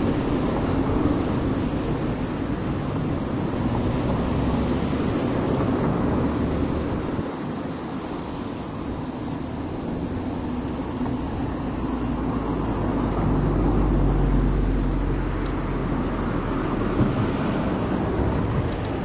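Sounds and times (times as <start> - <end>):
train passing rumble: 0.0 - 19.0.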